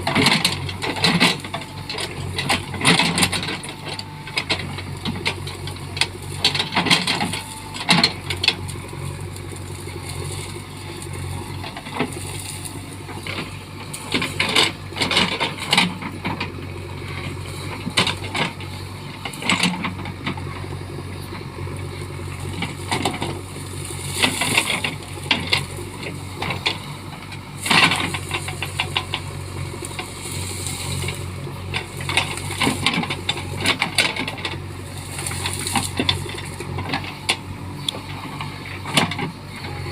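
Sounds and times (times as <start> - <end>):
branches cracking and clattering: 0.0 - 20.8, 21.7 - 39.3
diesel engine running: 0.0 - 39.9.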